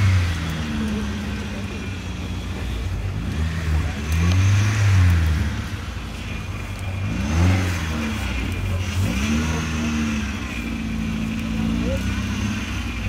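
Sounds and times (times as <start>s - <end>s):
off-road engine labouring and revving: 0.0s - 13.0s.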